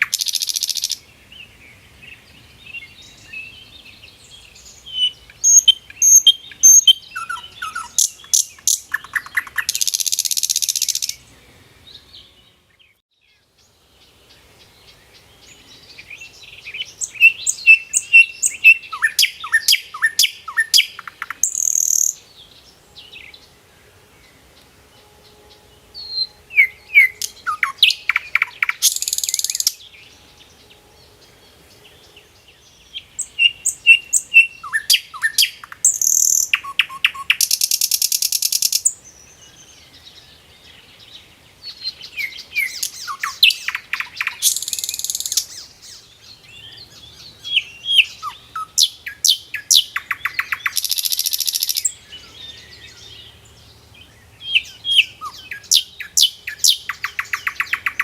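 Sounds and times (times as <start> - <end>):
bird singing with buzzy trills: 0.0 - 58.0.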